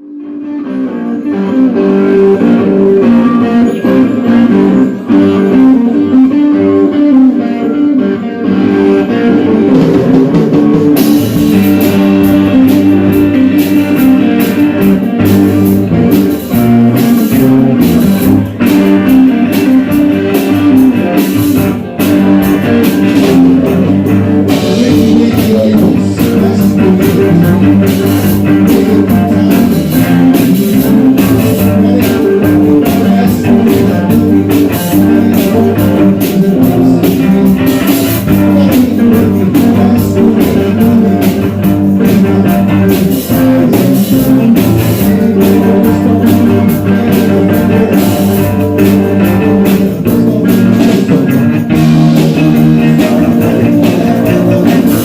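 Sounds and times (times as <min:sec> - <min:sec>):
bass: 0:00.0 - 0:55.0
rock guitar: 0:00.0 - 0:55.0
drum kit beat: 0:00.9 - 0:55.0.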